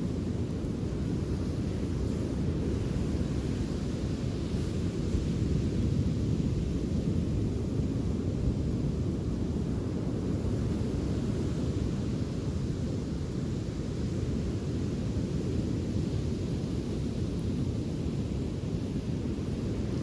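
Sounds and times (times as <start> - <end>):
surf on a sandy beach: 0.0 - 20.0
wind: 0.0 - 20.0.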